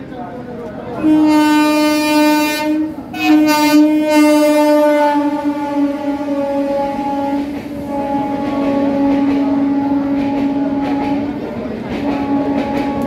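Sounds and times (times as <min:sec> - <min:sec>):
train running noise: 0:00.0 - 0:13.0
locomotive horn blasts: 0:01.0 - 0:11.4, 0:12.0 - 0:13.0.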